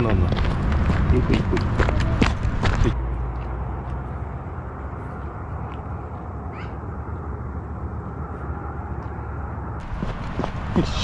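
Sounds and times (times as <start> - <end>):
low rumble of outdoor noise: 0.0 - 11.0.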